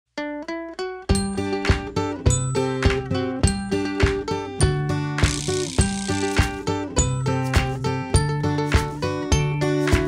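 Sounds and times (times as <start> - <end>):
plucked string notes: 0.2 - 10.0
music with bass line and beat: 1.1 - 10.0.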